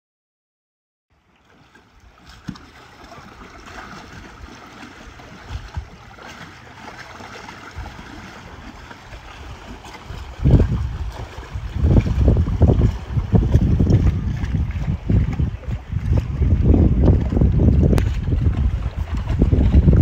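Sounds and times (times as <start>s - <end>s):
water against a seawall: 1.1s - 20.0s
wind buffeting microphone: 3.2s - 20.0s.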